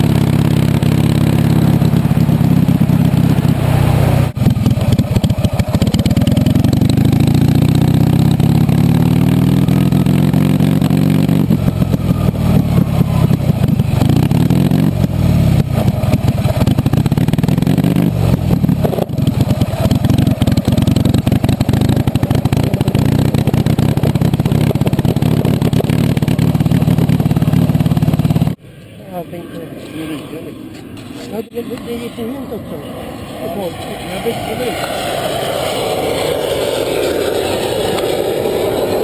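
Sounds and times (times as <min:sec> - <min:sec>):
motorcycle engine revving: 0:00.0 - 0:28.6, 0:30.1 - 0:39.0.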